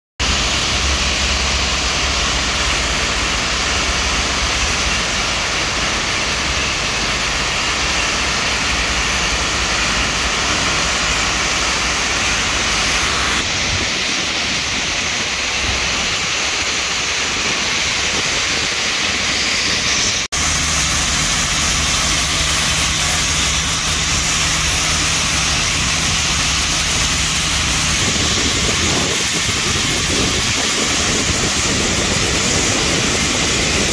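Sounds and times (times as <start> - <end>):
high-pressure water spraying: 0.2 - 33.9
machinery rumbling: 0.2 - 33.9.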